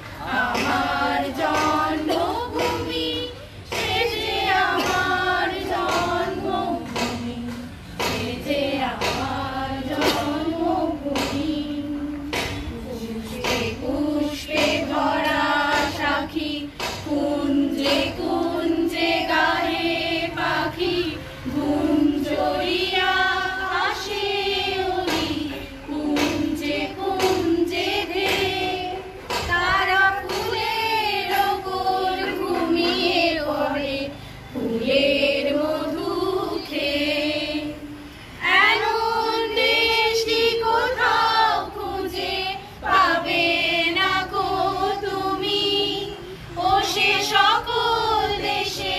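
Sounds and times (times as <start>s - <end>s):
group singing in unison: 0.0s - 48.9s.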